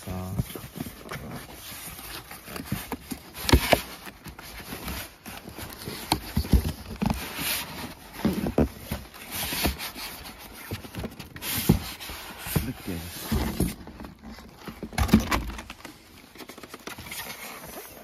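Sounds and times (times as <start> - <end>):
foam wrap rustling: 0.0 - 18.0
cardboard box knocks and thumps: 0.4 - 18.0.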